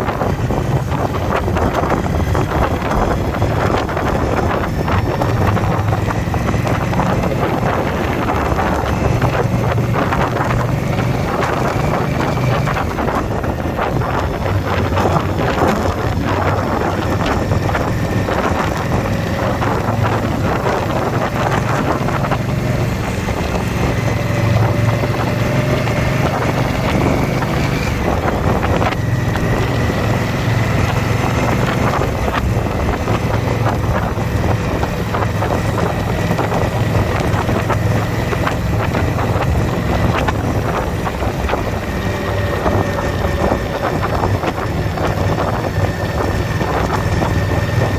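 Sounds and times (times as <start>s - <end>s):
motorcycle engine running: 0.0s - 47.9s
wind noise on microphone: 0.0s - 47.9s.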